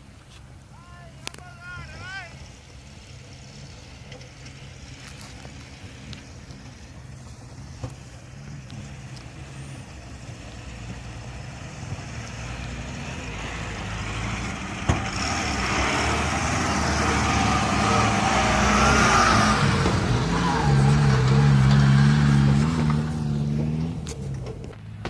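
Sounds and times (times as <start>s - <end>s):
off-road vehicle engine approaching: 0.0s - 25.0s.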